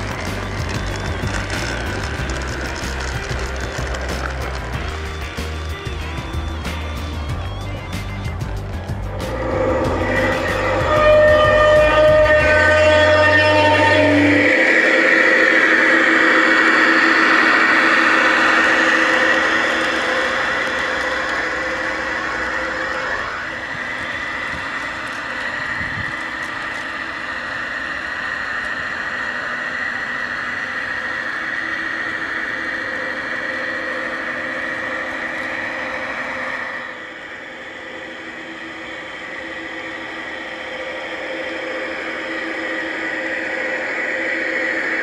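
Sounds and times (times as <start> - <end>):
model locomotive drone with whine: 0.0 - 45.0.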